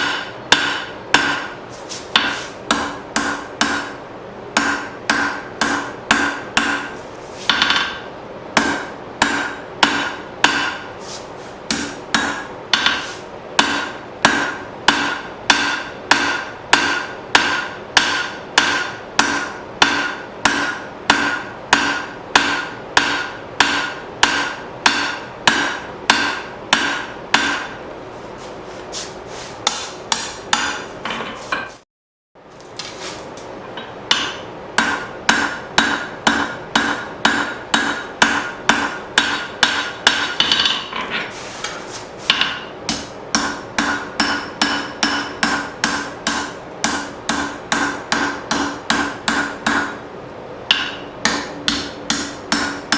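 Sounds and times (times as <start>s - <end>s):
hammer striking steel on anvil: 0.0s - 10.9s, 11.7s - 27.8s, 29.6s - 31.8s, 33.7s - 41.0s, 42.3s - 50.0s, 50.7s - 52.9s.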